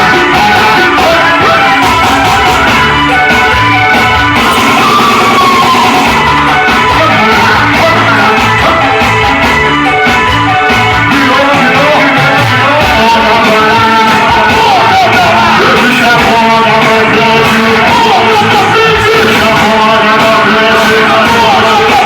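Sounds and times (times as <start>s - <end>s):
very loud music with singing: 0.0s - 22.0s.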